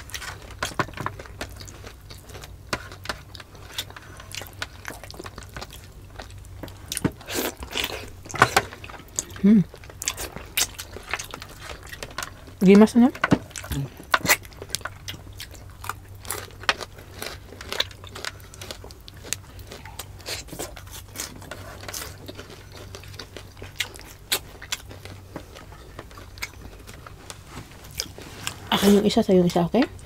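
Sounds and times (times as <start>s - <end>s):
wet chewing: 0.0s - 29.1s
faint low hum: 0.0s - 30.0s
food crunching: 0.0s - 30.0s.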